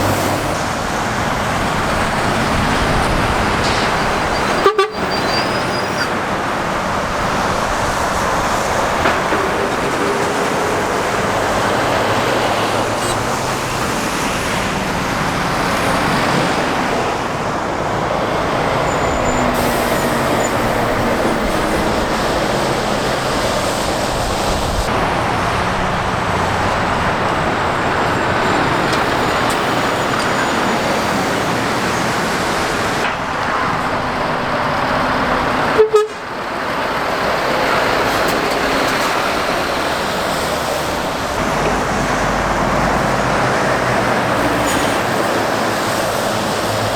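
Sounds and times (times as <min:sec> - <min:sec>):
traffic passing: 0:00.0 - 0:46.9.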